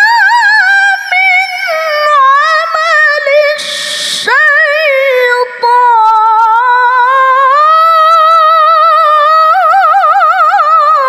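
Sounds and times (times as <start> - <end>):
woman reciting melodically: 0.0 - 11.0.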